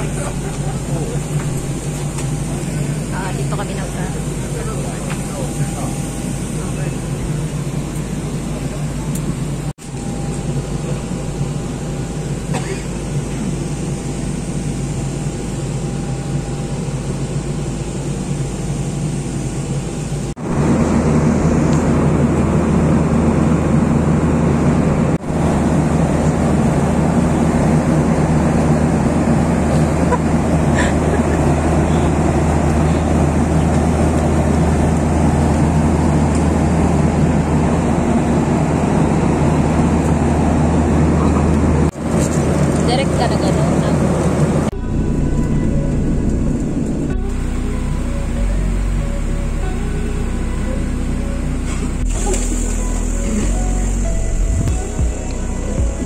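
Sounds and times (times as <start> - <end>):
airliner engine drone: 0.0 - 56.0.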